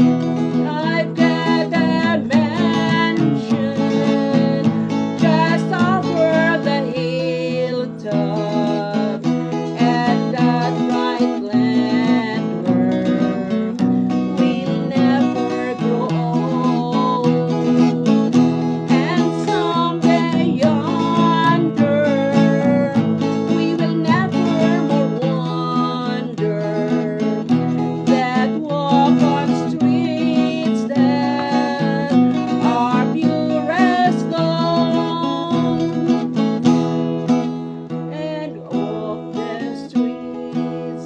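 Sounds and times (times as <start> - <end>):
acoustic guitar music: 0.0 - 41.0.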